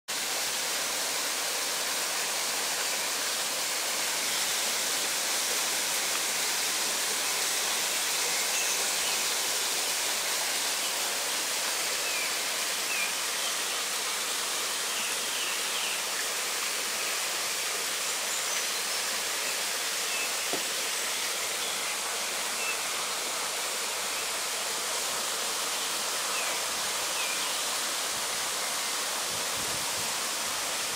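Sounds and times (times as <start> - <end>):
steady rushing hiss: 0.1 - 30.9.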